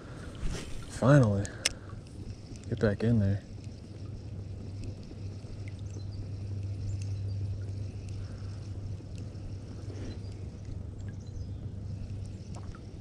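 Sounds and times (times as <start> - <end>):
steady low hum: 0.0 - 13.0
water lapping against kayak hull: 0.0 - 13.0.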